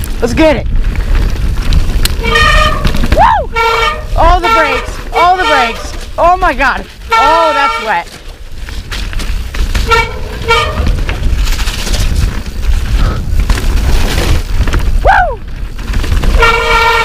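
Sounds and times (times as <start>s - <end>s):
tyres on dirt trail: 0.0s - 17.0s
wind rumble: 0.0s - 17.0s.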